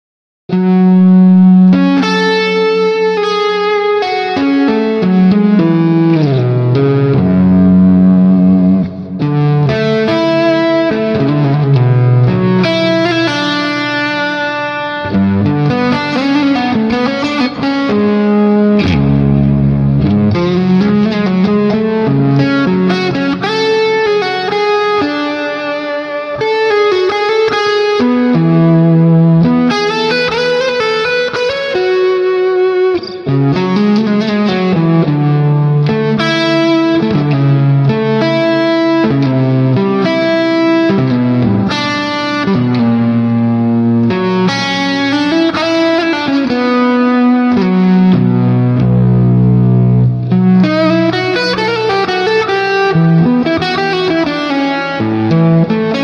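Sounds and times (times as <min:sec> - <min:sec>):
electric guitar with reverb: 0:00.5 - 0:56.0.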